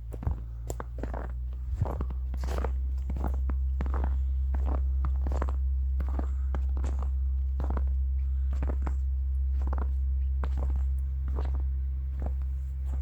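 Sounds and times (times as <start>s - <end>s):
footsteps crunching in snow: 0.0s - 13.0s
low rumble: 0.0s - 13.0s.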